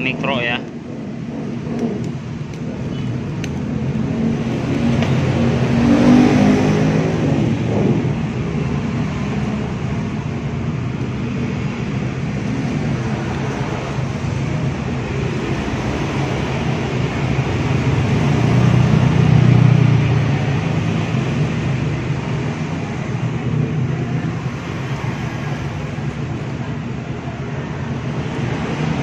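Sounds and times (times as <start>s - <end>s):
vehicle engine passing: 0.0s - 26.3s.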